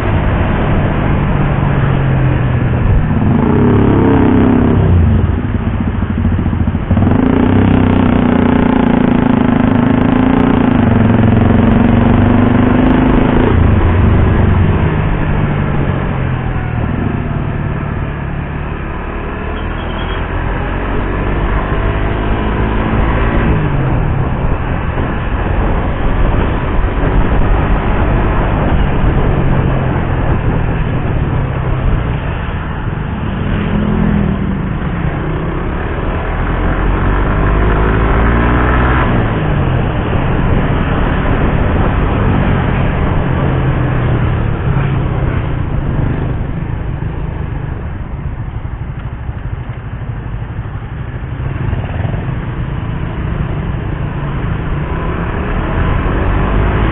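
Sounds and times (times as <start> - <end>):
motorcycle engine accelerating: 0.0 - 56.9
wind and road noise: 0.0 - 56.9.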